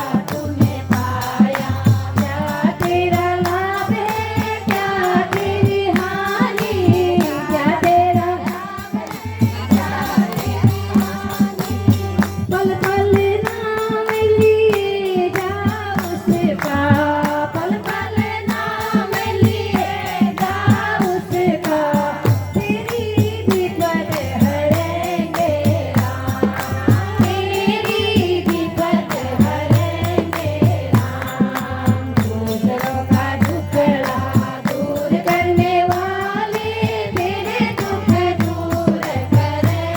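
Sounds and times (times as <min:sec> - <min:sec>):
hand drum beat: 0:00.0 - 0:39.9
jingling percussion: 0:00.0 - 0:39.9
woman singing devotional song: 0:00.0 - 0:39.9.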